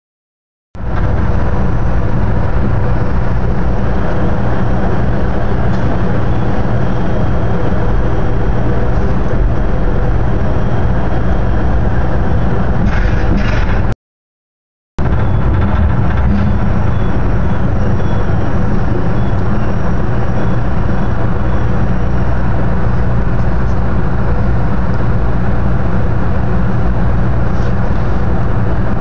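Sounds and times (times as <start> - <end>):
passenger train rumbling on rails: 0.8 - 13.9, 15.0 - 29.0.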